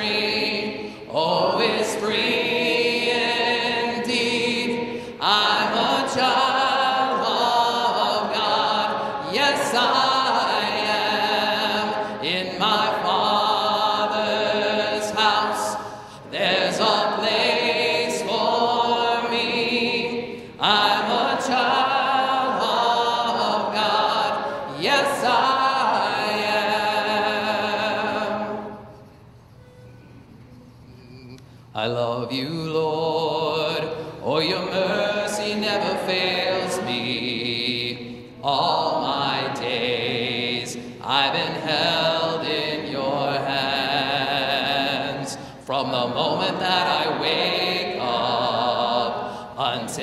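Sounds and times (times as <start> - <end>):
congregation singing a hymn: 0.0 - 29.1, 31.8 - 50.0.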